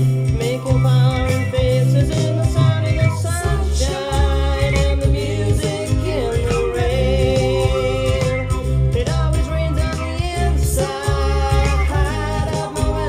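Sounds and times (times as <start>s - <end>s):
pop-rock song with vocals: 0.0s - 13.0s.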